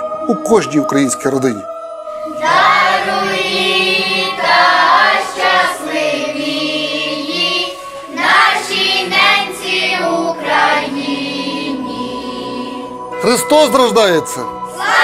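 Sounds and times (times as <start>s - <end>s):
children's choir singing a carol: 0.0s - 15.0s.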